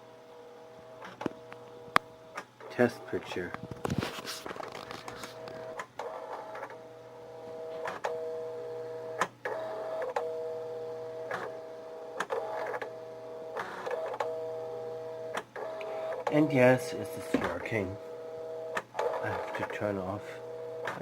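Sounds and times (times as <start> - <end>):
printer carriage whine: 0.0 - 21.0.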